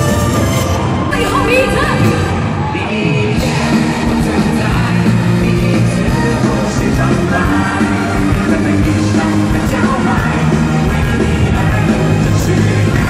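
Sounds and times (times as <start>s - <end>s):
live pop-rock band music: 0.0s - 13.0s
person singing: 1.1s - 13.0s.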